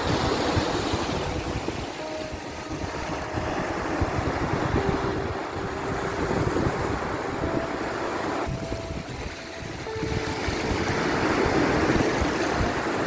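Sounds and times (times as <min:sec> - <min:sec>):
waves breaking: 0:00.0 - 0:13.0.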